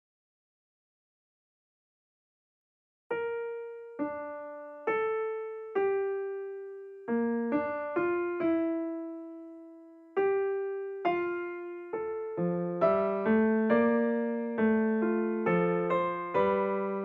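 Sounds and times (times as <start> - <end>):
slow piano melody: 3.1 - 17.0.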